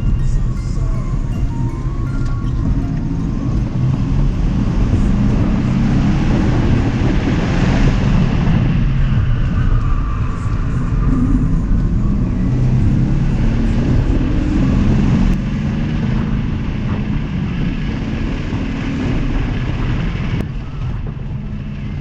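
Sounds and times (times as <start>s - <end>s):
car engine drone: 0.0s - 22.0s
road noise: 0.0s - 22.0s.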